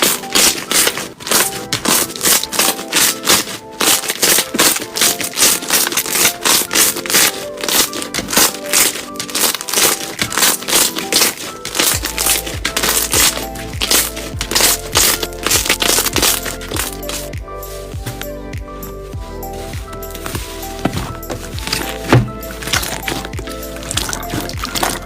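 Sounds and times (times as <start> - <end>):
slime crackling and crunching: 0.0 - 17.4, 19.2 - 25.0
background music with melody: 0.0 - 25.0.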